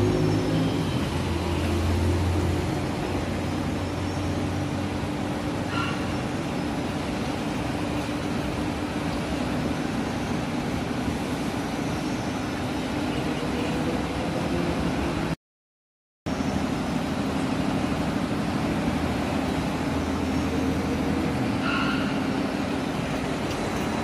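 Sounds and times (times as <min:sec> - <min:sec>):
laundry machinery humming: 0:00.0 - 0:15.4, 0:16.3 - 0:24.0.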